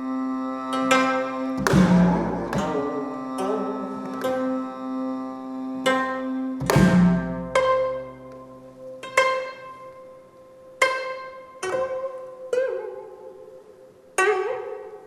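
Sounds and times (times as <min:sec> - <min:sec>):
plucked zither notes: 0:00.7 - 0:05.2, 0:05.8 - 0:15.0.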